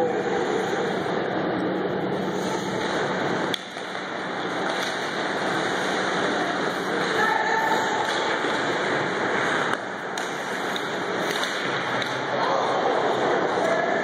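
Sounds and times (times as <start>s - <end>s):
ice hockey rink din: 0.0s - 14.0s.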